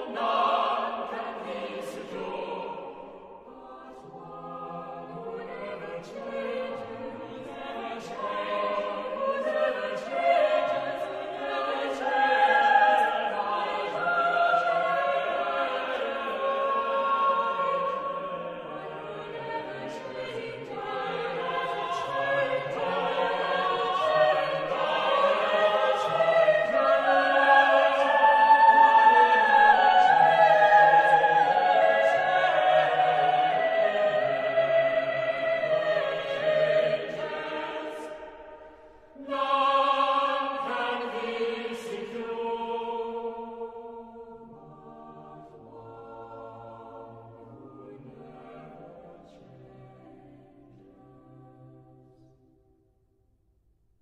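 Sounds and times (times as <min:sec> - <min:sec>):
choir singing: 0:00.0 - 0:52.4.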